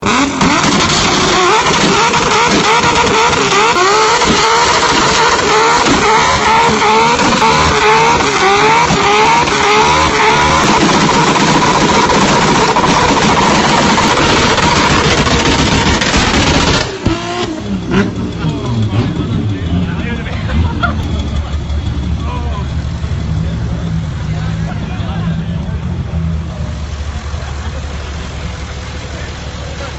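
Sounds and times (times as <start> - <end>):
car engine revving hard: 0.0 - 29.9.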